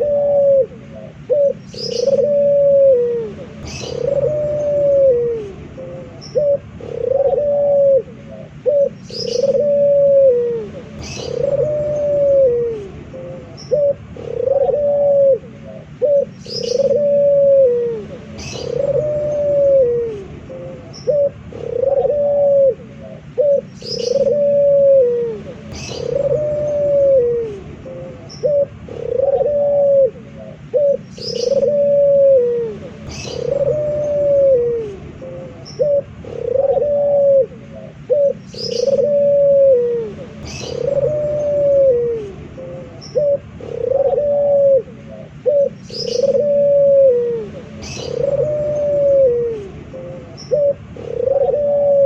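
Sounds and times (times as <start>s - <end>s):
dove cooing: 0.0s - 52.0s.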